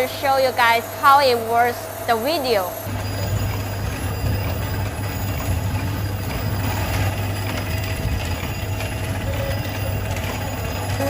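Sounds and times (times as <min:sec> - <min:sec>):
machine low hum: 0:00.0 - 0:11.0.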